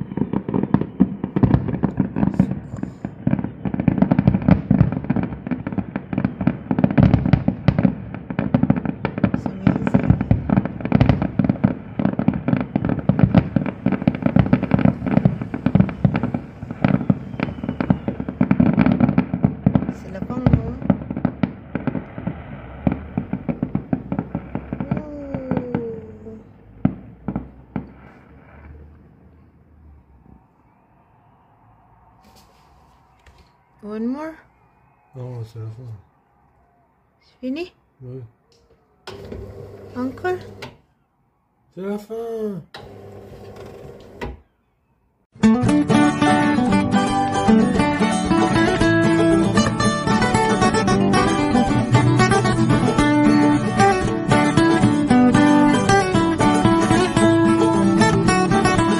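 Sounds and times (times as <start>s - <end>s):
fireworks bangs: 0.0s - 37.7s, 39.0s - 41.0s, 45.4s - 58.9s.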